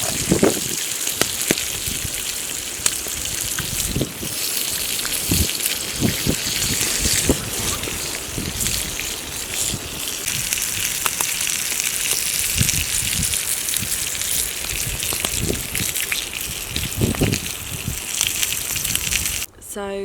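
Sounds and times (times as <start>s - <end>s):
heavy rain hissing: 0.0s - 19.5s.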